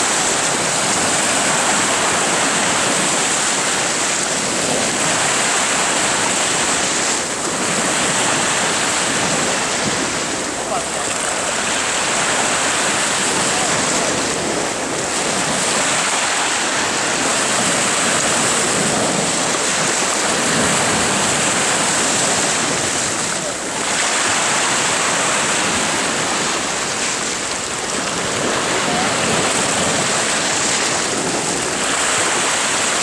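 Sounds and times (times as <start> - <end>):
surf breaking on rocky shore: 0.0 - 33.0.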